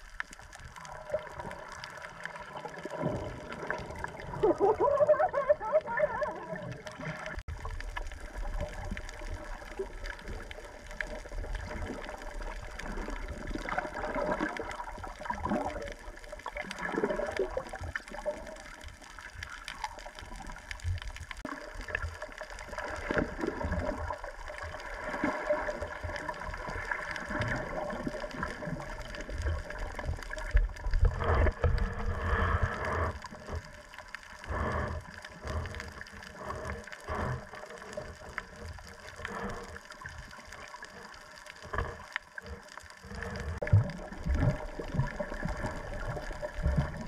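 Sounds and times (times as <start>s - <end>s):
underwater gurgling and bubbling: 0.0s - 47.0s.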